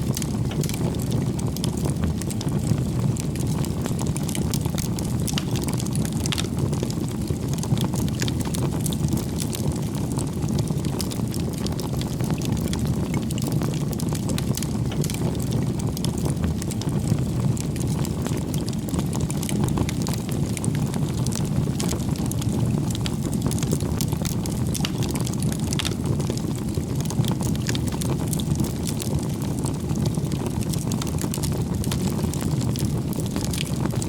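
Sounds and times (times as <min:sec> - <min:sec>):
firewood crackling and popping: 0:00.0 - 0:34.0
low rumble of flames: 0:00.0 - 0:34.0.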